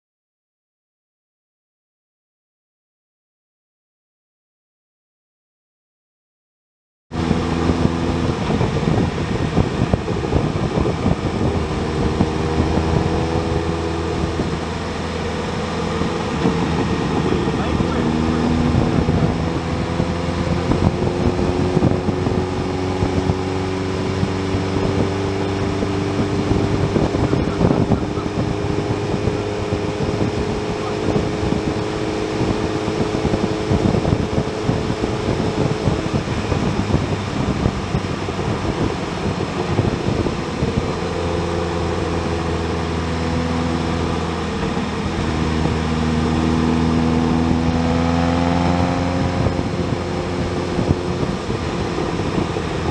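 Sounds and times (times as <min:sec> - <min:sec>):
rush of riding noise: 0:07.1 - 0:52.9
motorcycle engine running: 0:07.2 - 0:52.9.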